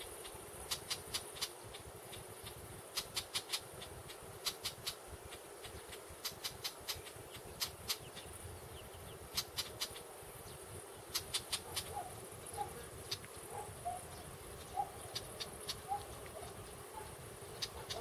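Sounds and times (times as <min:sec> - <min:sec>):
insects hissing: 0:00.0 - 0:18.0
clicking bird calls: 0:00.2 - 0:08.3, 0:09.3 - 0:10.1, 0:11.0 - 0:18.0.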